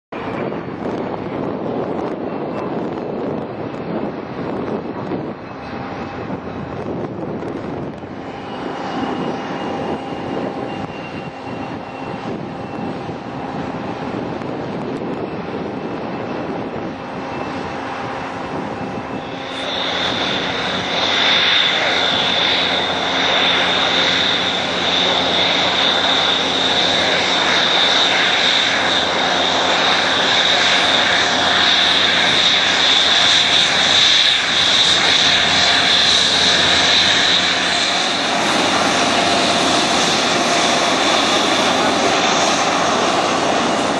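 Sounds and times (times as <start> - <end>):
jet engine high whine: 0.1 - 43.9
jet engine roar: 0.1 - 43.9.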